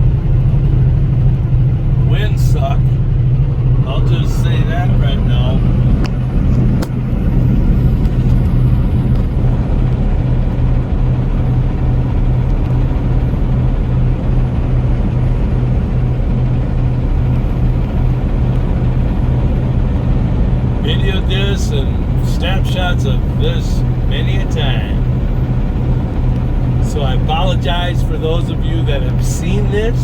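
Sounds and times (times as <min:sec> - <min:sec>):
road noise: 0:00.0 - 0:30.0
vehicle engine drone: 0:00.0 - 0:30.0.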